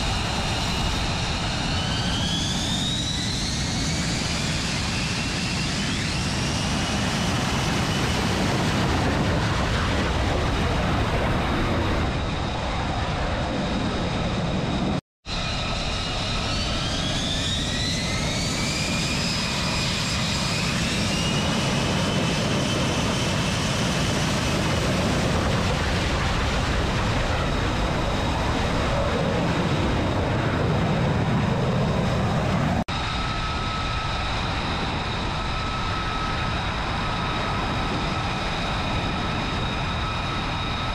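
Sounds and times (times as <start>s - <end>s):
jet engine roar with turbine whine: 0.0s - 40.9s.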